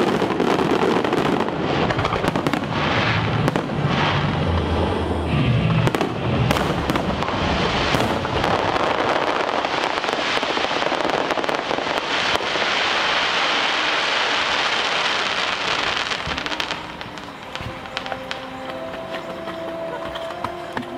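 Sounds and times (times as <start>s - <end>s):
fireworks bangs: 0.0s - 19.3s
fireworks crackling: 0.0s - 19.9s.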